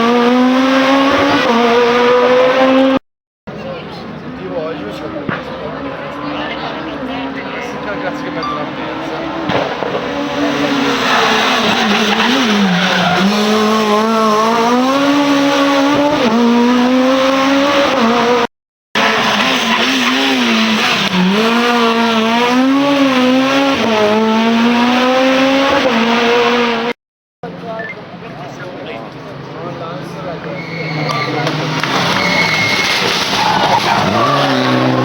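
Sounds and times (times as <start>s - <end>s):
loud tyre noise: 0.0s - 3.0s, 4.1s - 27.0s, 29.0s - 35.0s
rally car engine revving: 0.0s - 3.0s, 4.7s - 27.0s, 29.1s - 35.0s.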